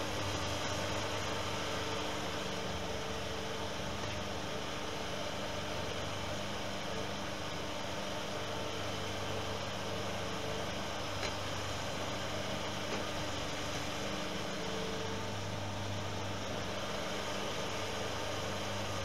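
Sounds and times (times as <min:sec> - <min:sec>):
skid steer engine humming: 0:00.0 - 0:19.0.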